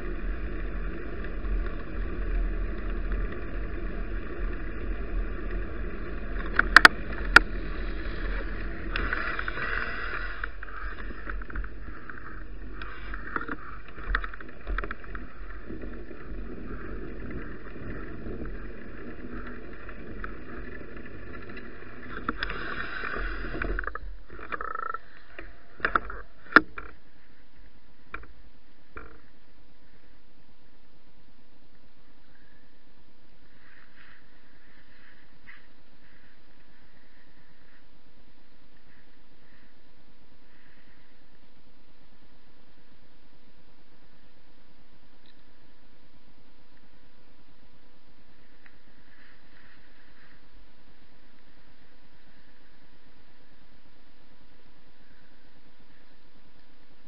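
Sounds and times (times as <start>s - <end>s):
road rumble: 0.0s - 57.0s
steady hiss: 0.0s - 57.0s
wind: 0.0s - 57.0s.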